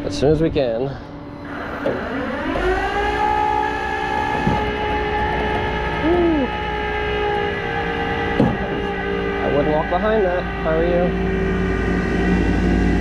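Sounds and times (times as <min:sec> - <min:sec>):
tow truck drive whining: 0:01.3 - 0:13.0.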